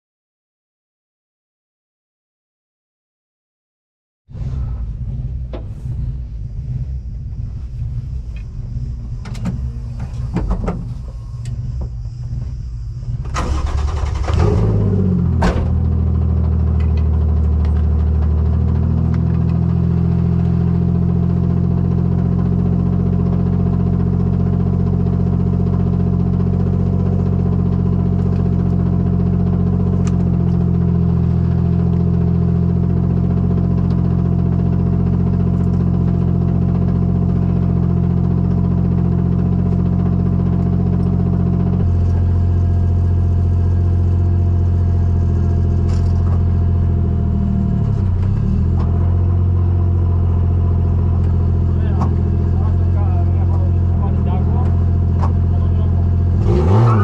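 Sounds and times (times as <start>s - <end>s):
race car engine starting and idling: 4.3s - 57.0s.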